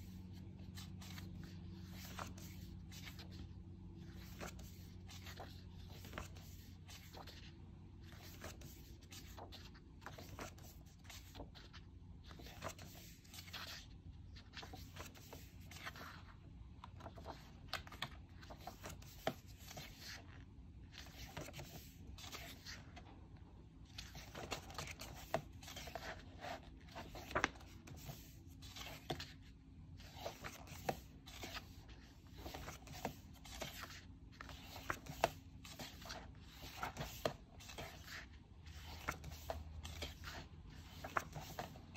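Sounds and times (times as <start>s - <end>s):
book pages turning: 0.0s - 23.1s, 23.9s - 41.9s.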